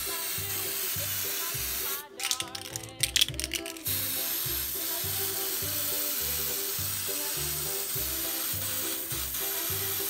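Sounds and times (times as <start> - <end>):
music with steady bass beat: 0.0 - 2.1, 2.8 - 10.0
aerosol spray can hissing: 0.0 - 10.0.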